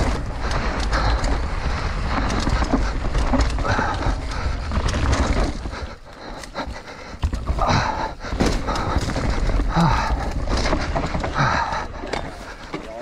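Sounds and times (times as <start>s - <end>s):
bike knocking and rattling: 0.0s - 13.0s
bike tyres on loose dirt: 0.0s - 13.0s.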